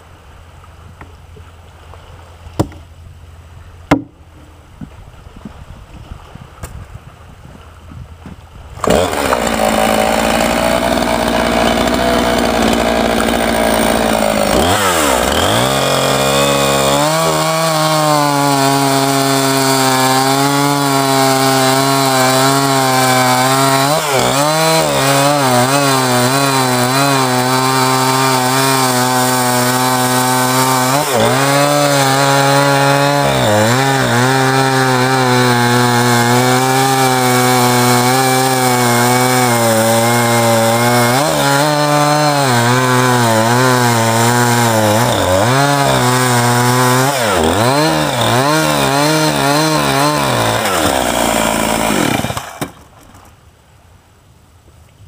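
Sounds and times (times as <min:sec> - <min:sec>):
chainsaw cutting wood: 0:08.7 - 0:53.3.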